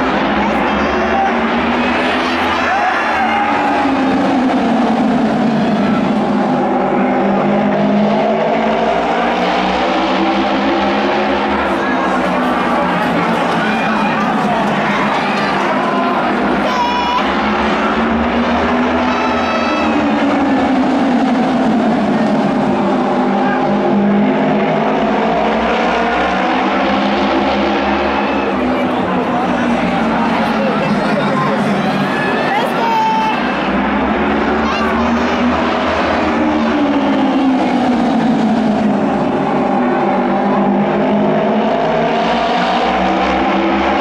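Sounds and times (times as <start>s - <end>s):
racing motorcycles at high revs: 0.0s - 32.6s, 33.6s - 44.0s.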